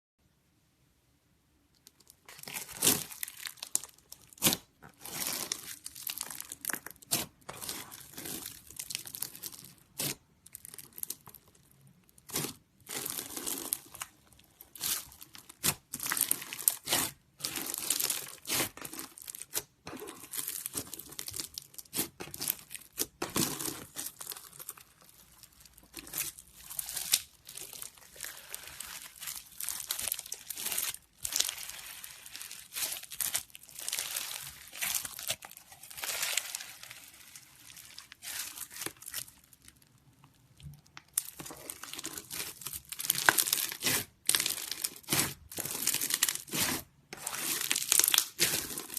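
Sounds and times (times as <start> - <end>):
slime crackling and popping: 1.8 - 48.9.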